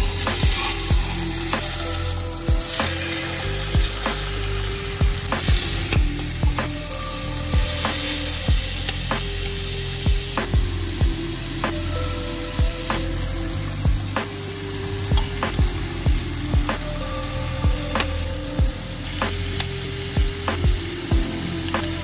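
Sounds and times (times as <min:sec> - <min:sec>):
background music with steady beat: 0:00.0 - 0:22.0
squid sizzling in a frying pan: 0:00.0 - 0:22.0.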